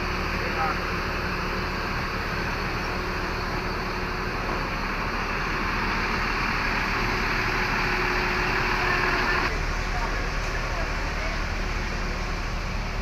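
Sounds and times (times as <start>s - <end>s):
diesel bus engine idling: 0.0s - 13.0s.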